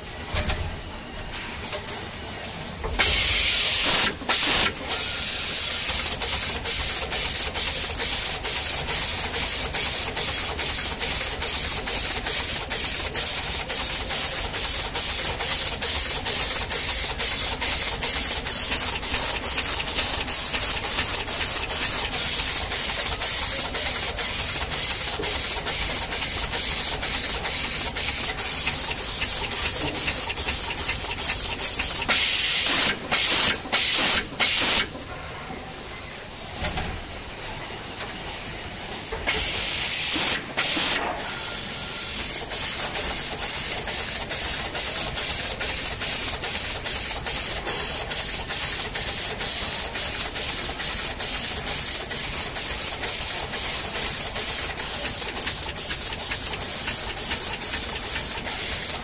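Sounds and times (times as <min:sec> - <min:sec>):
machine hissing: 0:03.0 - 0:34.9, 0:39.2 - 0:59.0.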